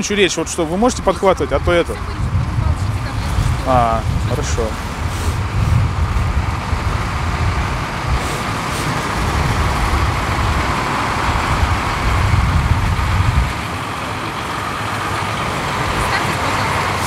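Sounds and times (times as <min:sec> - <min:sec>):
heavy low engine drone: 0:00.0 - 0:17.0
road traffic noise: 0:00.0 - 0:17.0.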